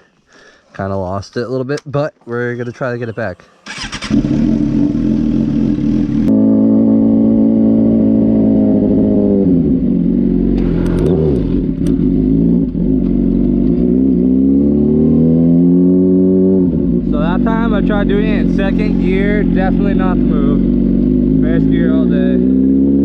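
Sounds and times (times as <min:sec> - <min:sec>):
motorcycle engine revving: 0:03.6 - 0:23.0.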